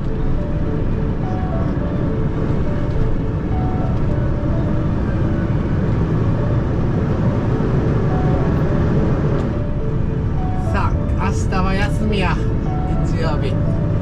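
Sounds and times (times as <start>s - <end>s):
diesel truck engine rumble: 0.0s - 14.0s
road noise: 0.0s - 14.0s.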